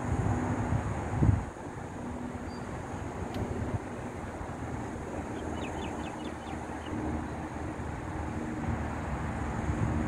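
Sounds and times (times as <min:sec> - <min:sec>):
distant motor: 0:00.0 - 0:10.0
wind on microphone: 0:00.0 - 0:10.0.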